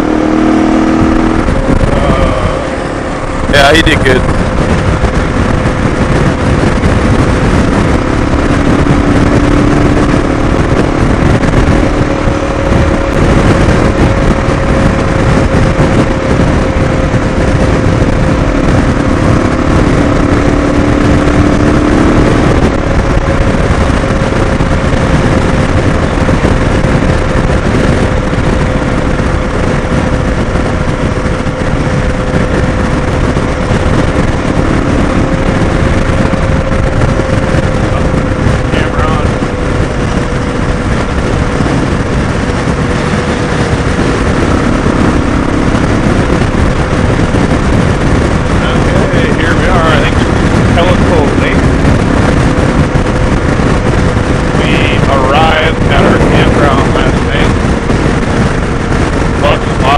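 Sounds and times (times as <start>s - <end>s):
motorcycle engine drone: 0.0s - 59.9s
wind and road noise: 0.0s - 59.9s.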